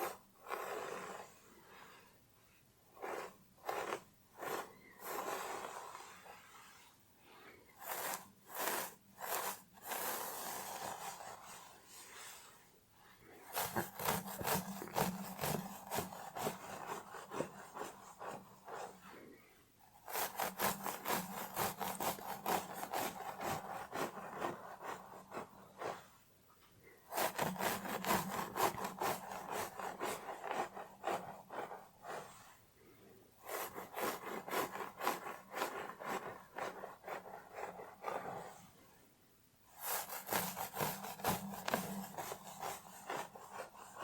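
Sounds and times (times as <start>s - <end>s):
scratching hair on scalp: 0.0s - 1.7s, 3.0s - 7.0s, 7.8s - 12.6s, 13.2s - 19.2s, 19.9s - 26.1s, 27.1s - 32.6s, 33.4s - 38.6s, 39.8s - 44.0s.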